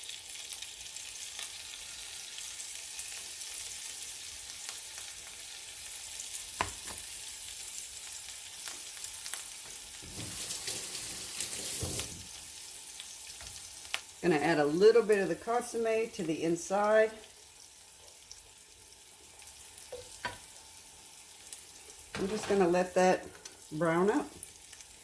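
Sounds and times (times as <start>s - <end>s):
tortilla sizzling in oil: 0.0s - 25.0s.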